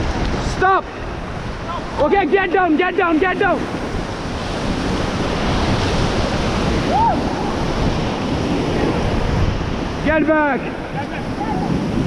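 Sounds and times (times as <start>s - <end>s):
river rapids rushing: 0.0s - 12.0s
wind on microphone: 0.0s - 12.0s.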